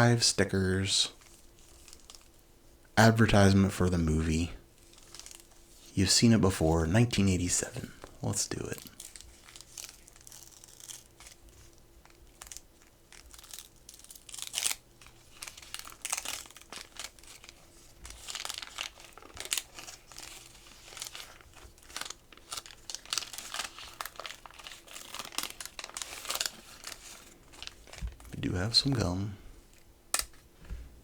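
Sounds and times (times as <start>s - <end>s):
wax paper wrapper crinkling: 1.1s - 30.6s.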